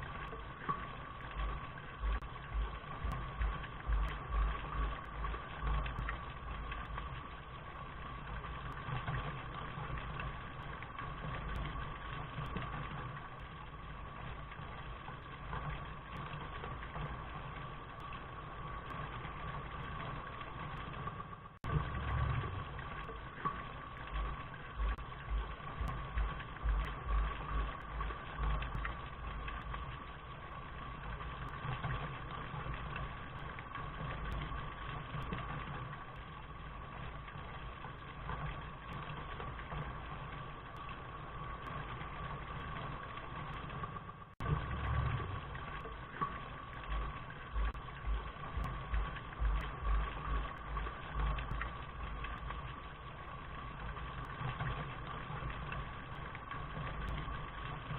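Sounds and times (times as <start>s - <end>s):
low rumble: 0.0s - 57.9s
steady rain: 0.0s - 57.9s.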